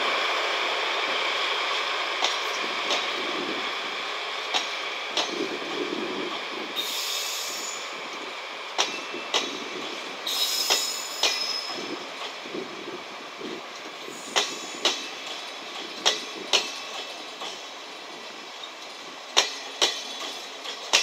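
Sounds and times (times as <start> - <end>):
train rolling noise: 0.0 - 21.0
train wheels clicking over rail joints: 1.4 - 12.6, 13.4 - 21.0.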